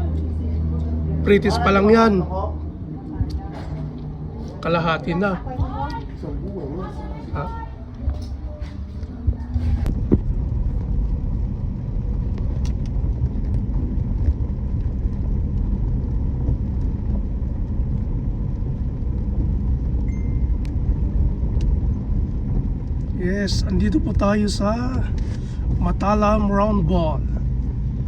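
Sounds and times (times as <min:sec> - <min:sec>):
wind noise on microphone: 0:05.4 - 0:28.0.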